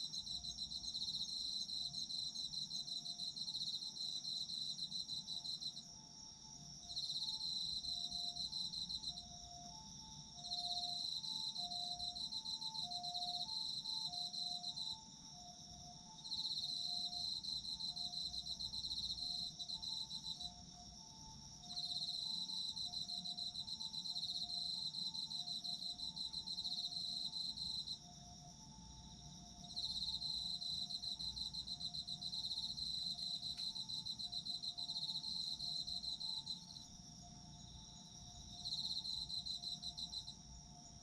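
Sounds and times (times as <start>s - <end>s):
insect high steady ringing: 0.0s - 41.0s.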